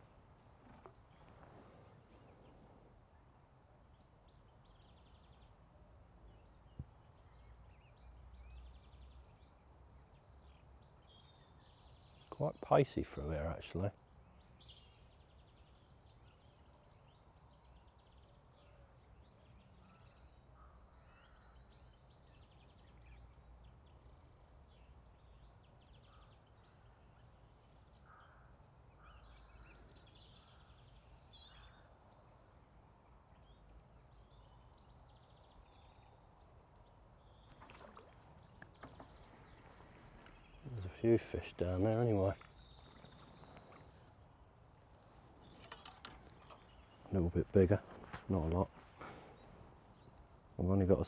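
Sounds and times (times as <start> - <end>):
faint birdsong: 0.0 - 51.0.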